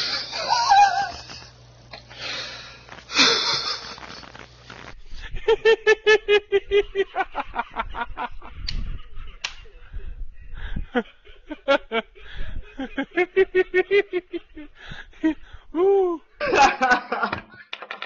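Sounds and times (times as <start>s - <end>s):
man laughing rhythmically: 0.0s - 1.6s, 3.1s - 4.5s, 5.2s - 17.6s.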